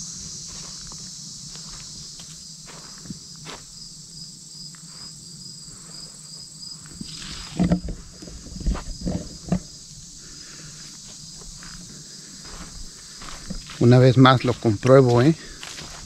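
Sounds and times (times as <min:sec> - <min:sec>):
footsteps on trail: 0:00.0 - 0:03.8, 0:04.8 - 0:16.0
insects chirping: 0:00.0 - 0:16.0.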